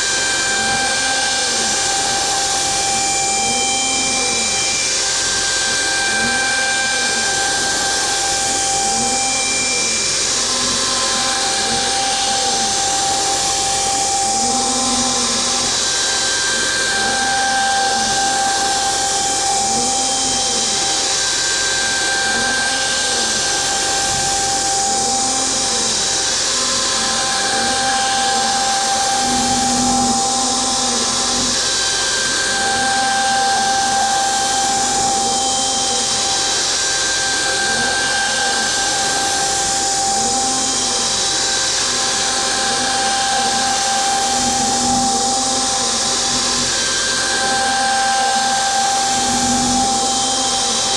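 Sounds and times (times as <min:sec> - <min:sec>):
router spindle whine: 0:00.0 - 0:50.9.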